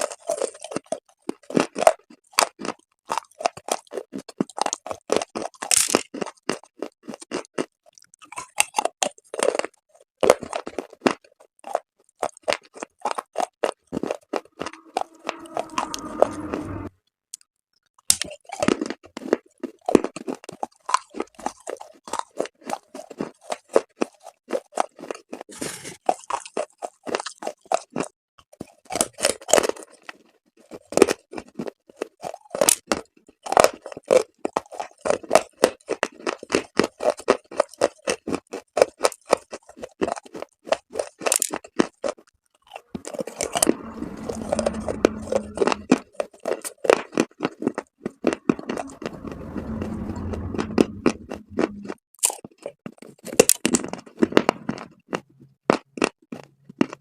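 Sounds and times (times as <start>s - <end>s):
chalk crunching while chewed: 0.0s - 15.5s, 18.0s - 43.6s, 45.3s - 49.0s, 51.1s - 57.0s.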